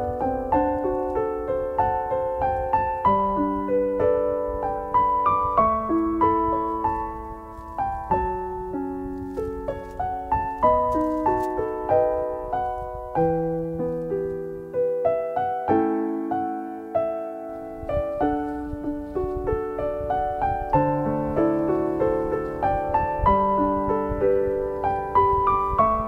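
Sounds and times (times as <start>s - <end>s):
gentle piano melody: 0.0s - 26.0s.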